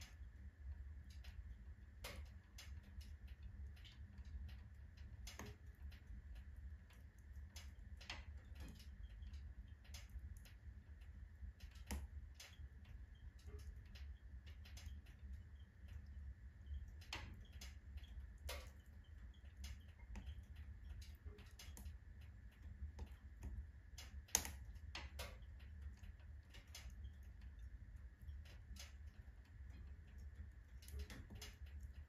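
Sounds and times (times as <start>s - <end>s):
firewood crackling and popping: 0.0s - 32.0s
low steady rumble: 0.0s - 32.0s.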